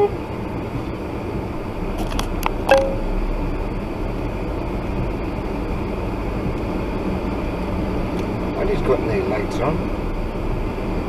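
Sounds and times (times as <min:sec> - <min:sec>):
car engine rumble: 0:00.0 - 0:11.0
tyres on wet road: 0:00.0 - 0:11.0.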